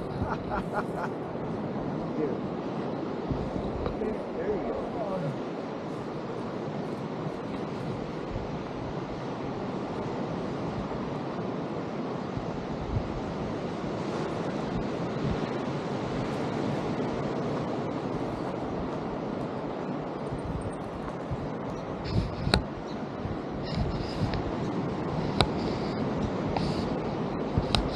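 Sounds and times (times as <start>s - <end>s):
ocean surf: 0.0s - 27.9s
wind buffeting microphone: 0.0s - 27.9s.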